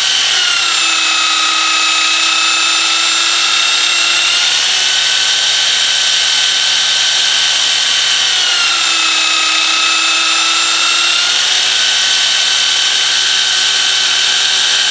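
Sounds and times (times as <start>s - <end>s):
belt sander motor whine: 0.0s - 14.9s.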